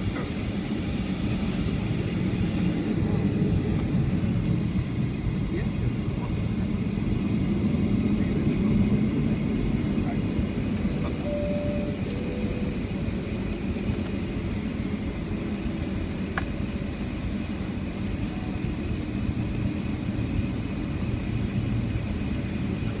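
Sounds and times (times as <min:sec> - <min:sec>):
low aircraft cabin hum: 0:00.0 - 0:23.0
faint steady whine: 0:00.1 - 0:23.0.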